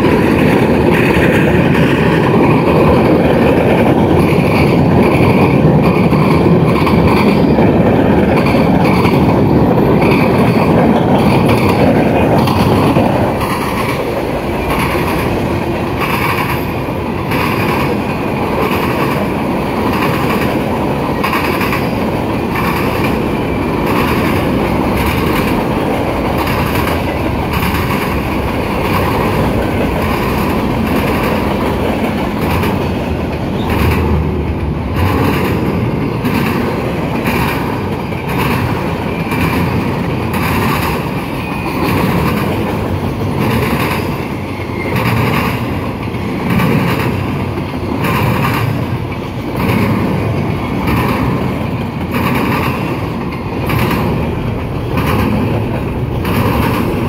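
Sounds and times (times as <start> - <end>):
train rumble: 0.0 - 57.0
train wheels clickety-clack: 0.0 - 57.0.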